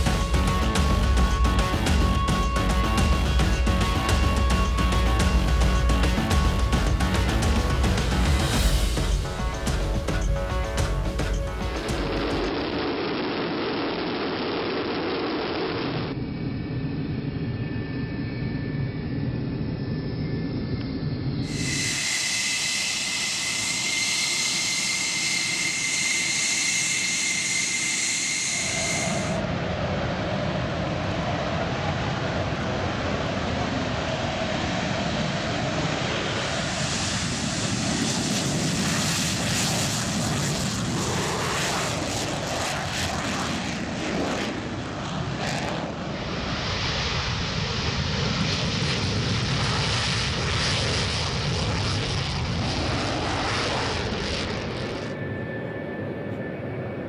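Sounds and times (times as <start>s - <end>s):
jet engine roar: 0.0s - 57.0s
jet engine whine: 0.0s - 57.0s.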